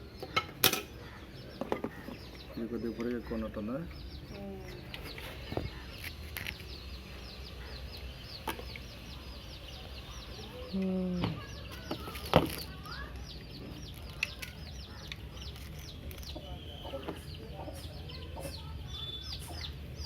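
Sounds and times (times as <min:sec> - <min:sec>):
chicks peeping: 0:01.0 - 0:20.0.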